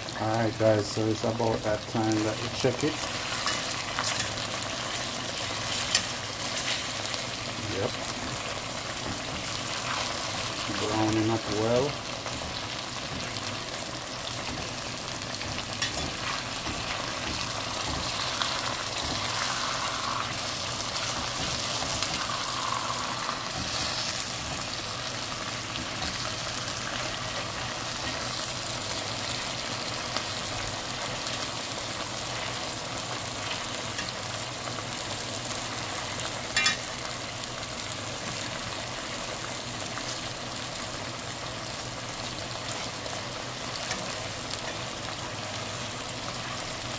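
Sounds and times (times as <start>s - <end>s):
chicken sizzling in oil: 0.0s - 46.9s.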